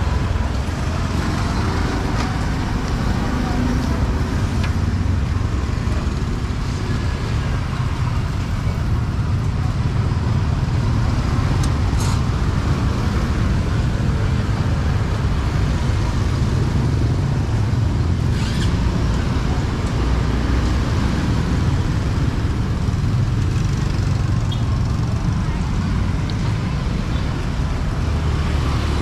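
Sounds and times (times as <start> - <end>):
motorbike traffic rumble: 0.0 - 29.0.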